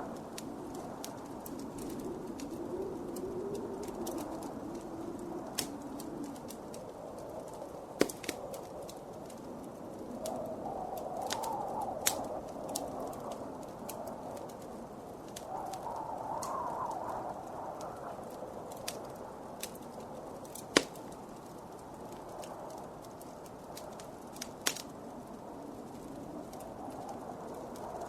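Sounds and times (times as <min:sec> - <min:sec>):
wind howling: 0:00.0 - 0:28.0
wood fire crackling and popping: 0:00.0 - 0:28.0.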